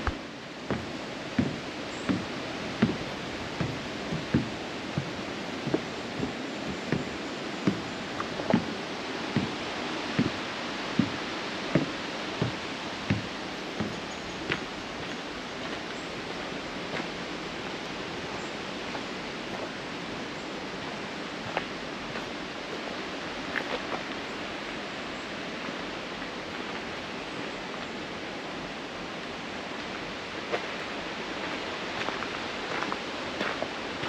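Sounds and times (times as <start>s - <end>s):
stream rapids rushing: 0.0s - 34.0s.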